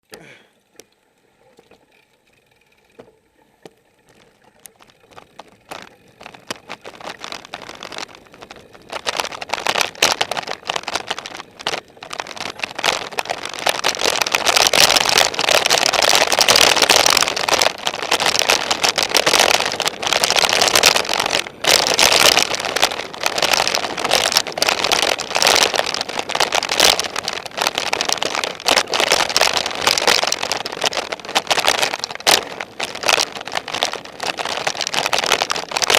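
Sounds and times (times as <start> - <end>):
wind rushing over camera microphone: 4.6 - 35.9.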